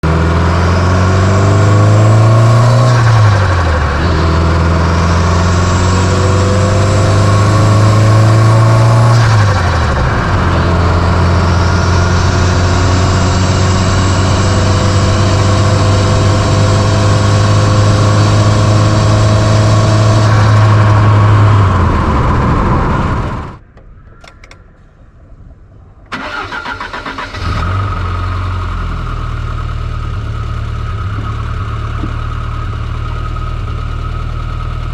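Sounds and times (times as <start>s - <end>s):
car engine revving and idling: 0.0s - 23.6s, 26.2s - 34.9s.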